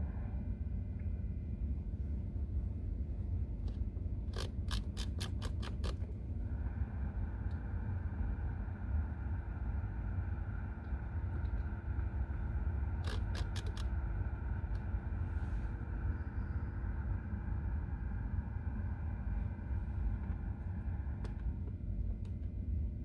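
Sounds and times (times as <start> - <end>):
air hissing from vents: 0.0 - 23.0
low rumble: 0.0 - 23.0.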